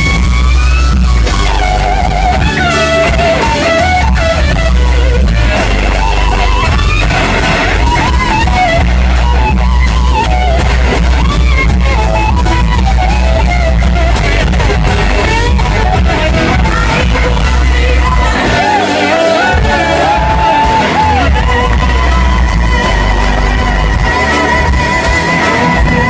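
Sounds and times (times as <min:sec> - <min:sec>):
lead electric guitar bending notes: 0:00.0 - 0:26.0
live rock band: 0:00.0 - 0:26.0.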